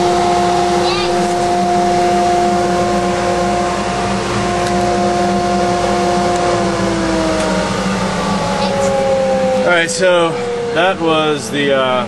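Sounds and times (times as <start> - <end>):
air rushing through ducting: 0.0 - 11.4
dust collector motor hum: 0.0 - 12.0.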